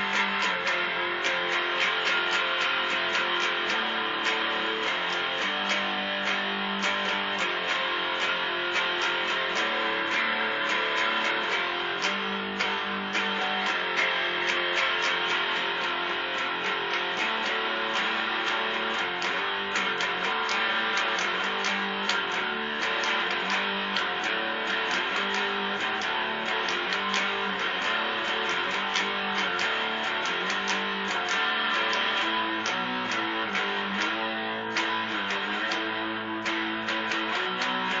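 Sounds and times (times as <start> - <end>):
electric guitar strumming: 0.0 - 38.0.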